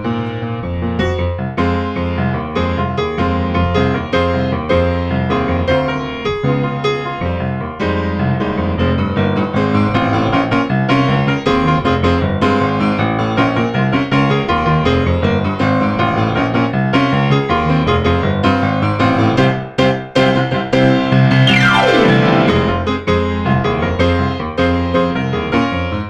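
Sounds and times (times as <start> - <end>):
fast piano piece: 0.0 - 26.0.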